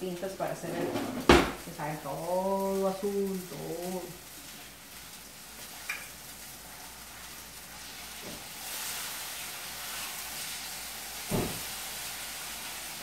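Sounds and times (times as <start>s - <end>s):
hot oil sizzling in a skillet: 0.0s - 13.0s.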